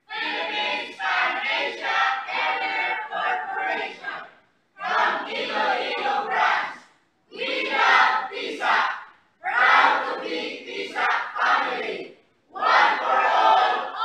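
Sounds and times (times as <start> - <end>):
group of people chanting: 0.1 - 14.0.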